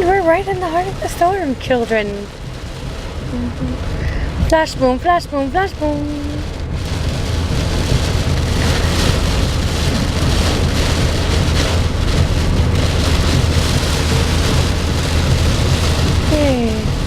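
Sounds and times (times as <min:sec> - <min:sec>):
heavy rain drumming on a car: 0:00.0 - 0:17.0
low rumble: 0:00.0 - 0:17.0.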